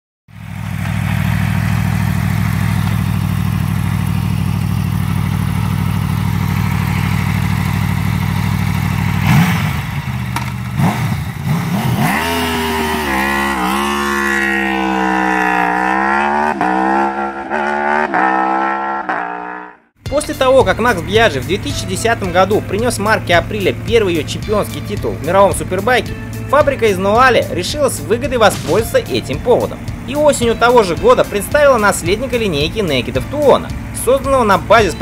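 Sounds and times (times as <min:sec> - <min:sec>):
motorcycle accelerating through gears: 0:00.3 - 0:20.0, 0:20.9 - 0:35.0
motorcycle engine idling and revving: 0:00.3 - 0:35.0.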